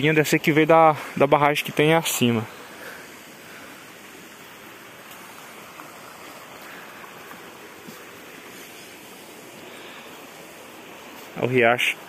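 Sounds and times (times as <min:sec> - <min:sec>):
creek water running over rock: 0:00.0 - 0:12.0.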